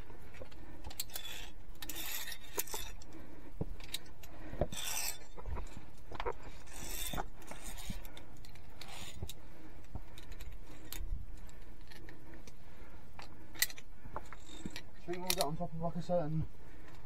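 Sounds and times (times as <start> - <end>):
carabiners clinking on steel cable: 0.3 - 12.6, 13.2 - 15.9.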